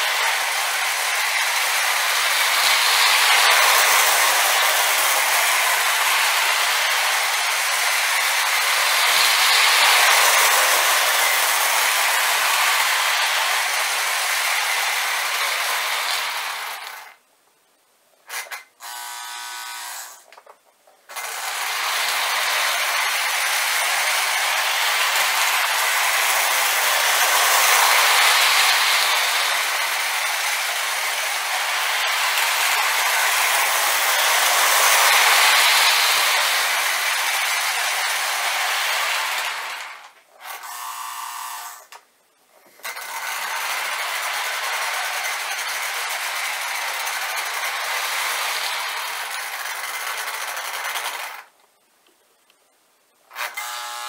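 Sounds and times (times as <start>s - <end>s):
model train motor whirring: 0.0s - 17.2s, 18.2s - 42.0s, 42.6s - 51.6s, 53.3s - 54.0s
wheels rattling on rails: 0.0s - 17.2s, 21.1s - 40.2s, 42.8s - 51.5s.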